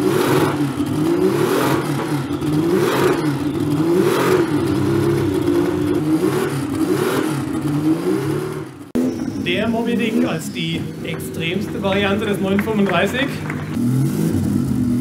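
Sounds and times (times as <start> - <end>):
race engine revving: 0.0 - 15.0.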